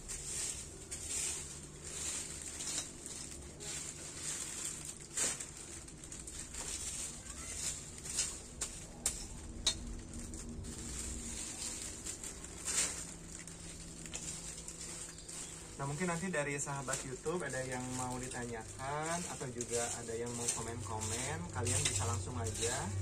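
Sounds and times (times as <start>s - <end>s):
plastic bag and dry leaves rustling: 0.0s - 23.0s.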